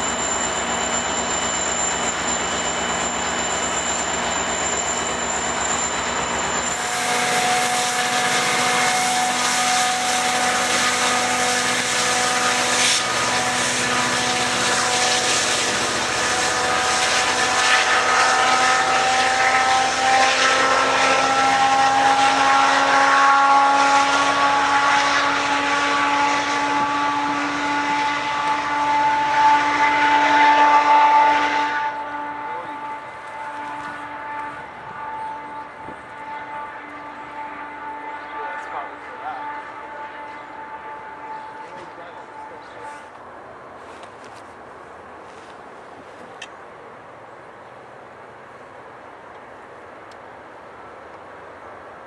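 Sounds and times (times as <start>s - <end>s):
diesel locomotive engine throttling up: 0.0s - 45.6s.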